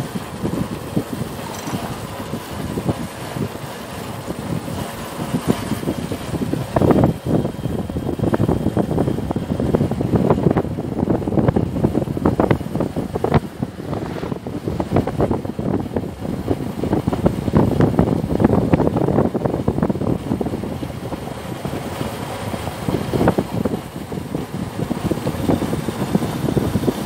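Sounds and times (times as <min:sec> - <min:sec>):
motorbike engine running: 0:00.0 - 0:27.0
wind buffeting microphone: 0:00.0 - 0:27.0.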